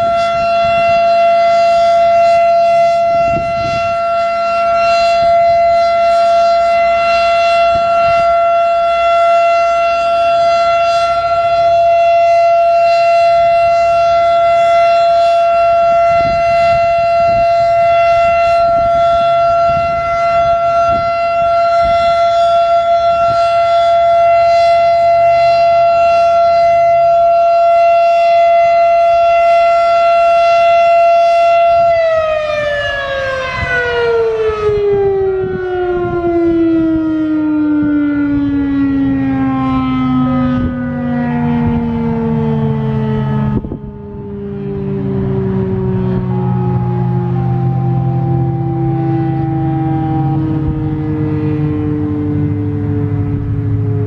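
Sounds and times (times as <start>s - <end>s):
warning siren low steady tone: 0.0s - 54.0s.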